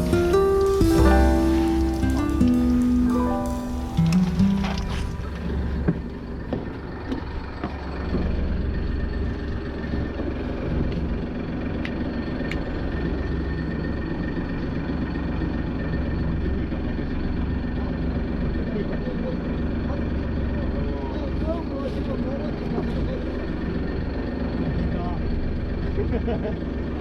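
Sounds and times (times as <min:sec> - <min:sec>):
boat engine humming: 0:00.0 - 0:27.0.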